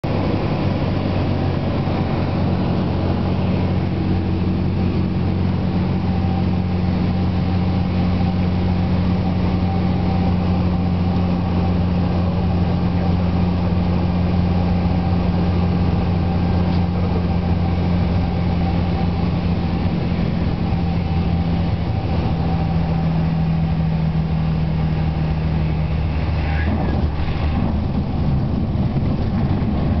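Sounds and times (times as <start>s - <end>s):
plane engine and propeller droning: 0.0s - 30.0s.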